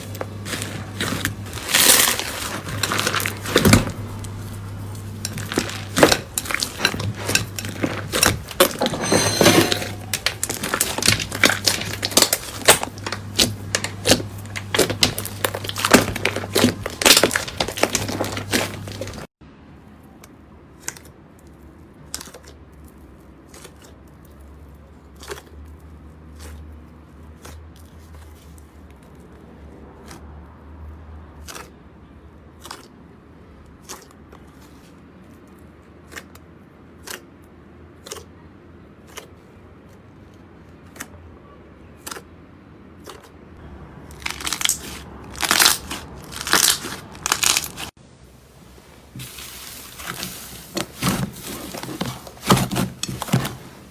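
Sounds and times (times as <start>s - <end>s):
slime crunching and crackling: 0.0s - 8.8s, 10.0s - 19.3s, 20.7s - 53.9s.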